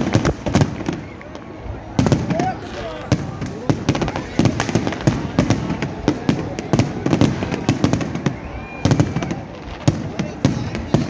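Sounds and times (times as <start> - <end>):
distant fireworks rumble: 0.0 - 11.0
fireworks bangs and cracks: 0.0 - 11.0.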